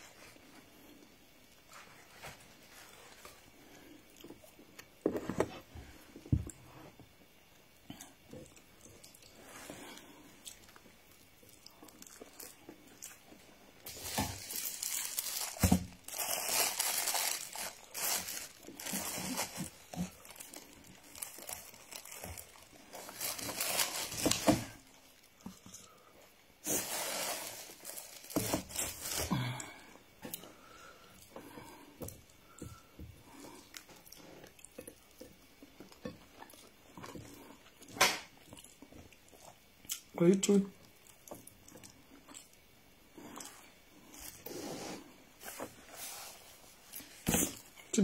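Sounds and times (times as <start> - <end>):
crackly rustling and crinkling: 0.0 - 48.0.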